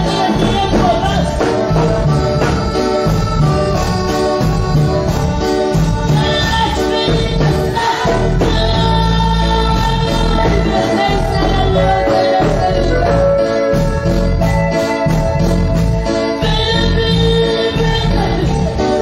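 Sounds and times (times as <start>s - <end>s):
woman singing: 0.0s - 14.3s, 16.3s - 19.0s
drums: 0.0s - 19.0s
electric bass: 0.0s - 19.0s
live band playing gospel music: 0.0s - 19.0s.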